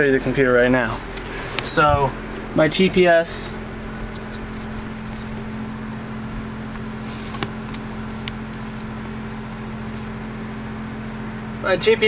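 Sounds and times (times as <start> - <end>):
car fan humming: 0.0 - 12.0.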